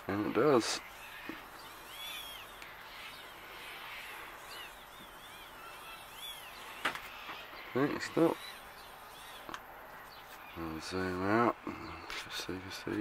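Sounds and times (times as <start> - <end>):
high arching chirps: 0.0 - 12.6
faint steady hiss: 0.0 - 13.0.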